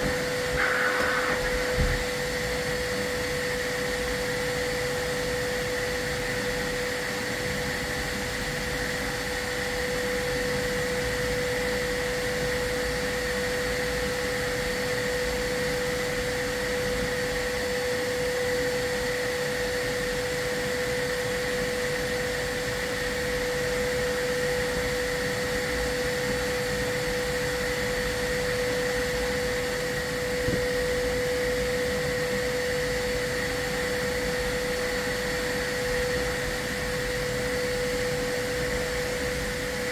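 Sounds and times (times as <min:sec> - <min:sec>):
vacuum whining: 0:00.0 - 0:39.9.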